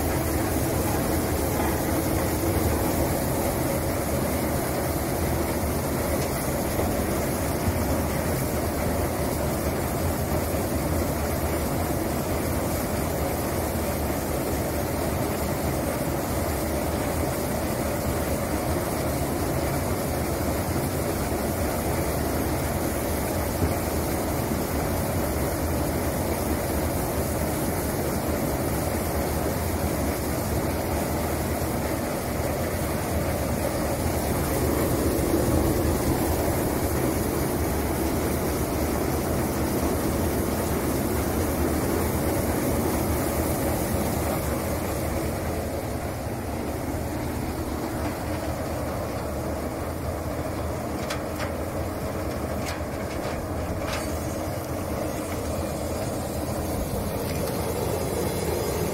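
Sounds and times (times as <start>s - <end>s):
washing machine motor drone: 0.0s - 58.9s.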